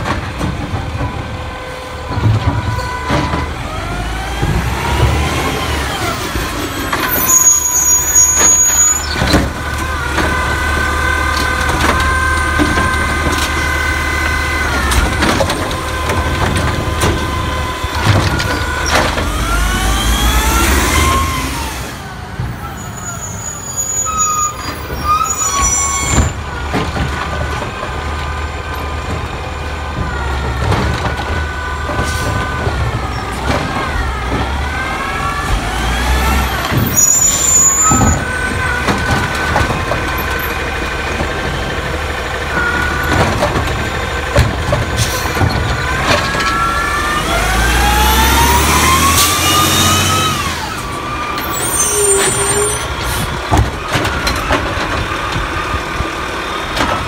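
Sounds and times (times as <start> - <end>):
truck engine revving: 0.0 - 23.7, 24.5 - 57.0
hydraulics whining: 0.0 - 57.0.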